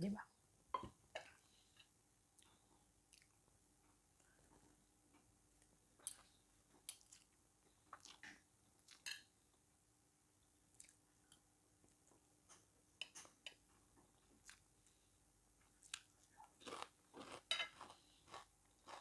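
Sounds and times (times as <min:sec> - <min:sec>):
chewing soft pasta: 0:01.3 - 0:04.9, 0:05.5 - 0:09.7, 0:10.7 - 0:15.0, 0:15.6 - 0:19.0.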